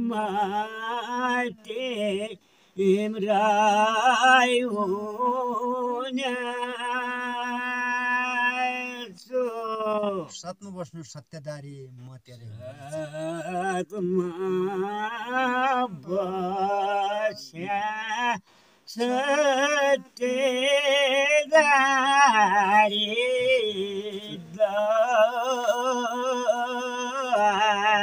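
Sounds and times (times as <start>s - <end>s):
man singing unaccompanied: 0.0s - 10.6s, 12.4s - 28.0s.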